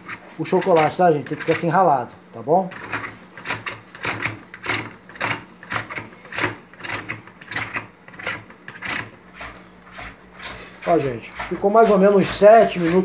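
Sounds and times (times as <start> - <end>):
chocolate scraping on metal grater: 0.0 - 13.0.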